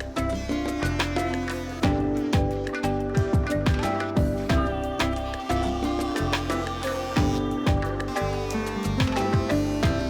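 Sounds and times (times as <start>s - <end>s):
low bass line: 0.0s - 10.0s
plucked notes: 0.0s - 10.0s.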